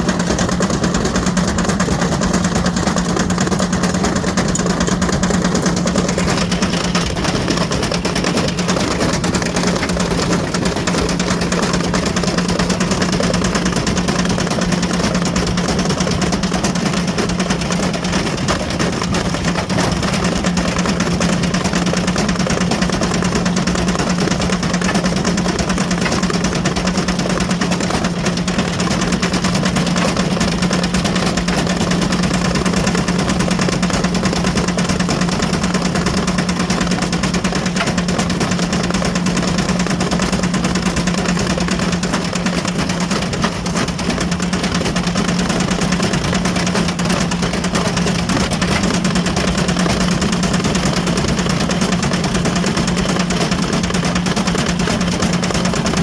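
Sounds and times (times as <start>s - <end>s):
rattling and knocking in drum: 0.0s - 56.0s
washing machine humming: 0.0s - 56.0s.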